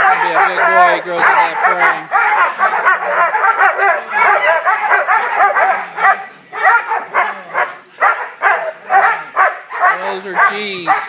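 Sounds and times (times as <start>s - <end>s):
dogs barking excitedly: 0.0s - 11.0s.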